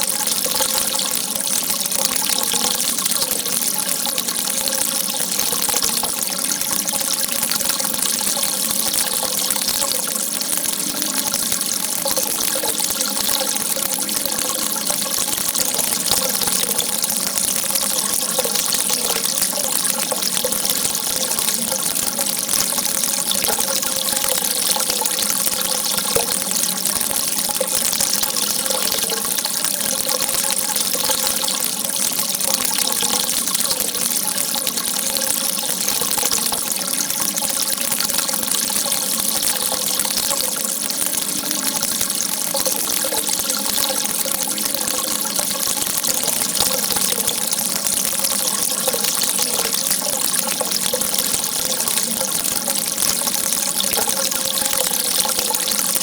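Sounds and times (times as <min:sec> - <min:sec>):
water gushing: 0:00.0 - 0:56.0.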